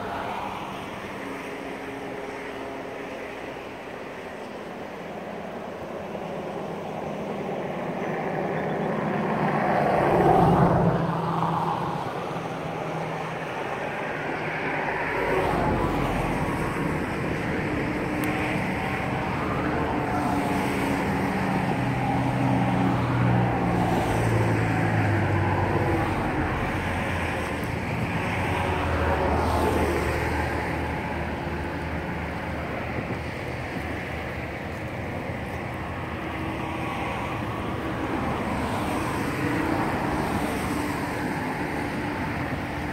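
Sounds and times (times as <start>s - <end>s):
cars passing: 0.0s - 42.9s.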